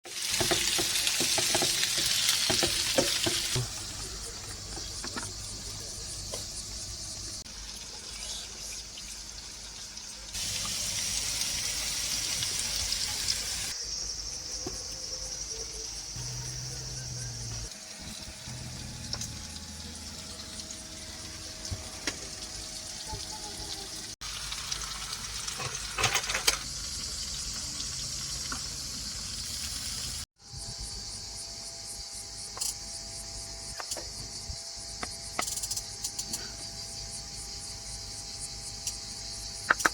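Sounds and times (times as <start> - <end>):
insects chirring: 0.1 - 39.9.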